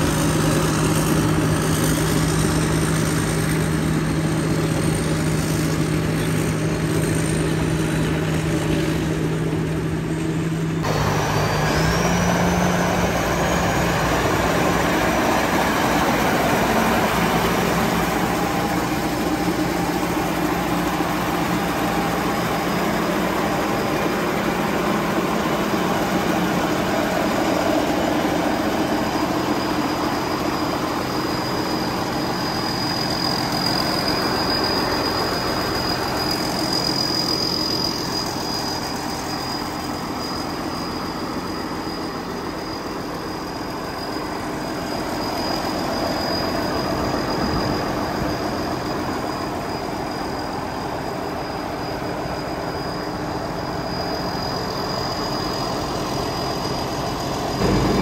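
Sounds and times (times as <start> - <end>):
combine harvester running: 0.0 - 58.0
thin high whine: 0.0 - 58.0.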